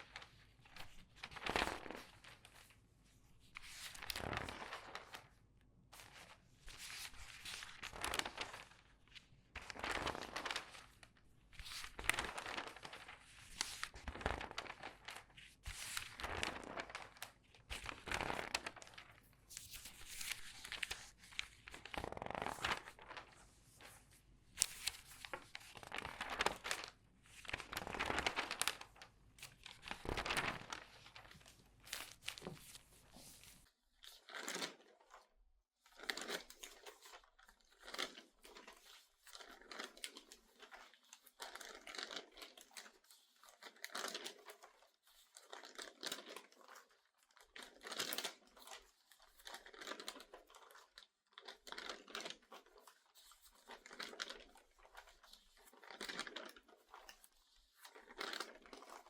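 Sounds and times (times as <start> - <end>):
newspaper pages rustling: 0.0 - 5.4, 6.0 - 35.2, 36.0 - 59.0.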